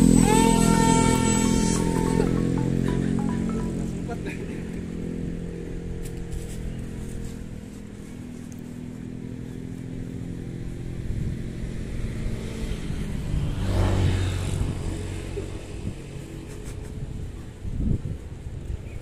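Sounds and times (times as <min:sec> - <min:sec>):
electric motor and propeller humming: 0:00.0 - 0:18.8.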